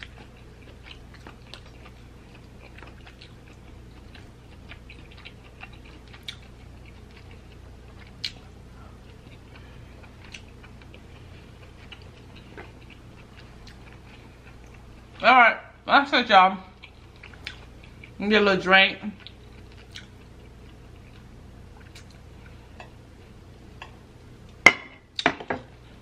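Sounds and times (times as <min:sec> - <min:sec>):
person chewing crab meat: 0:00.0 - 0:15.2, 0:16.7 - 0:18.2, 0:19.2 - 0:25.2.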